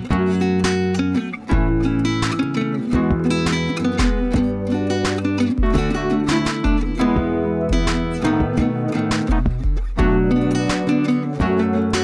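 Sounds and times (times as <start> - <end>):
strummed acoustic guitar music: 0.0 - 12.0
low bass notes: 1.4 - 12.0.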